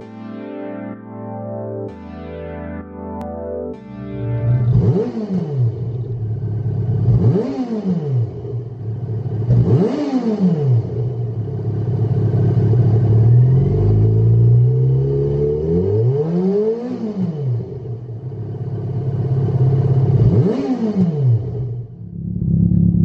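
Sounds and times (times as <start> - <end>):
motorcycle engine idling and revving: 4.5 - 23.0.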